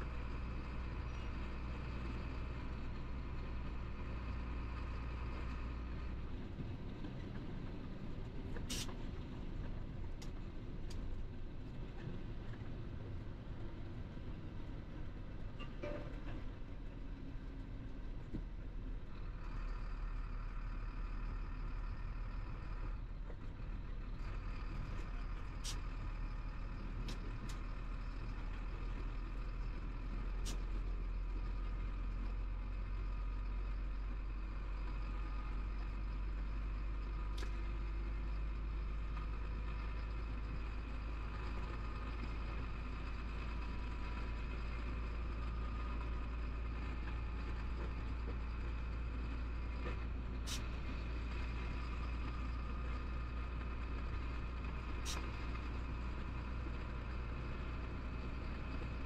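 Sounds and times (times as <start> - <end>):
road noise: 0.0 - 59.0
truck engine drone: 0.0 - 59.0.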